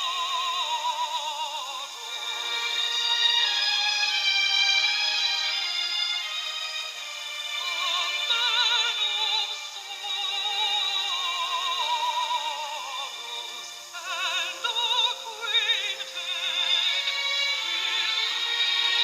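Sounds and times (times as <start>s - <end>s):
operatic high singing voice: 0.0s - 19.0s.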